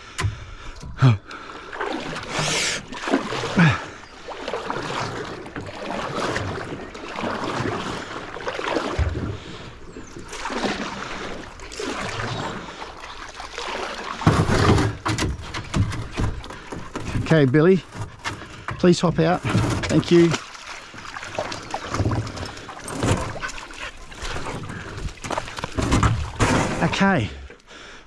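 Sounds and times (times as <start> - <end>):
water splashing around boat hull: 0.0 - 27.9.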